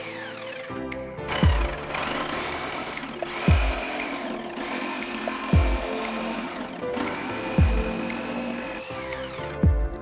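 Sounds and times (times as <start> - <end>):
reciprocating saw cutting wood: 0.0 - 9.6
music with deep bass beat: 1.3 - 10.0.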